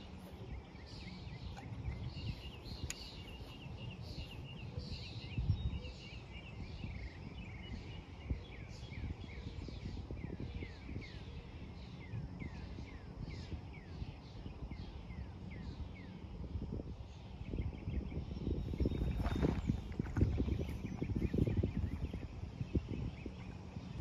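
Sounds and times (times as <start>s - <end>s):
birds chirping: 0.0s - 24.0s
low outdoor rumble: 0.0s - 24.0s.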